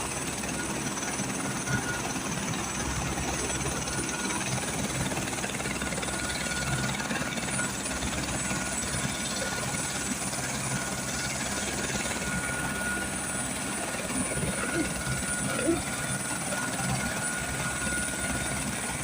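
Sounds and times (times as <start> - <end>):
helicopter rotor beat: 0.0 - 19.0.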